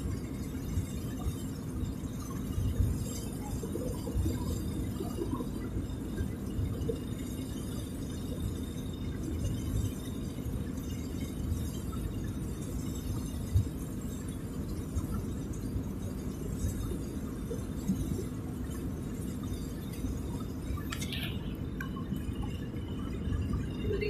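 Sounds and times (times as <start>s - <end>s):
road and engine rumble in car: 0.0s - 24.0s.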